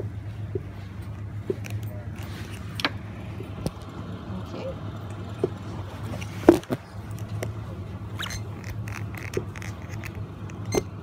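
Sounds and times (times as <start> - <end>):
low hum of shop background: 0.0 - 11.0.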